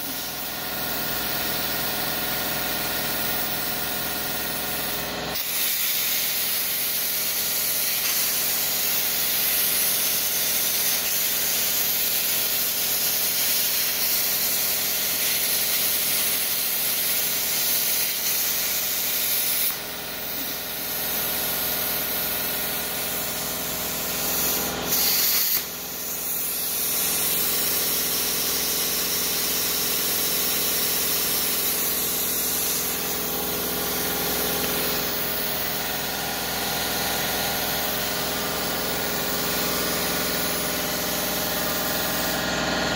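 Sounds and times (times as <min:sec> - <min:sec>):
plasma cutter arc hissing: 0:00.0 - 0:42.8.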